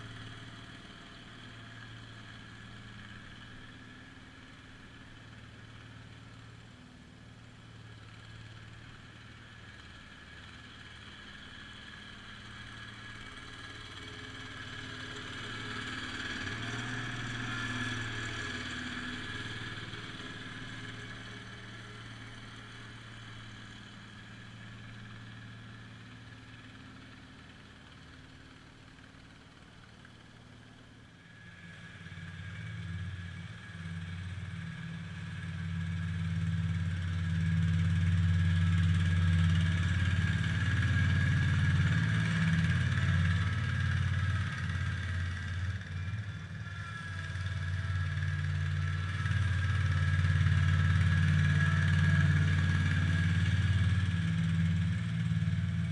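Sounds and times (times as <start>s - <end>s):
garden tractor engine running: 0.0s - 55.9s.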